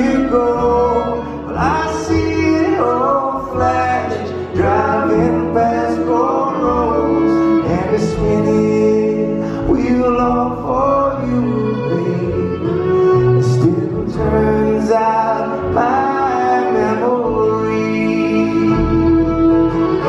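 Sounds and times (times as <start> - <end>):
acoustic guitar: 0.0 - 20.0
banjo: 0.0 - 20.0
fiddle: 0.0 - 20.0
upright bass: 0.0 - 20.0.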